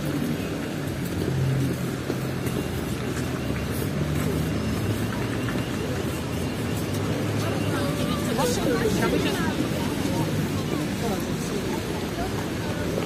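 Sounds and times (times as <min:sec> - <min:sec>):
street noise: 0:00.0 - 0:13.0
vehicle engine humming: 0:00.0 - 0:13.0.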